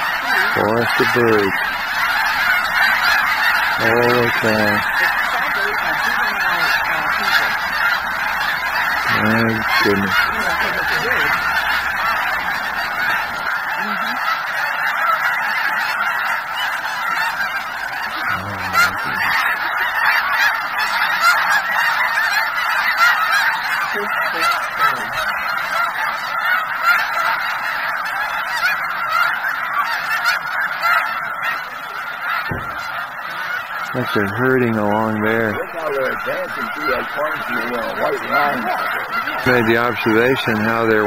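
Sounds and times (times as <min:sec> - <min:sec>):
geese honking: 0:00.0 - 0:41.0.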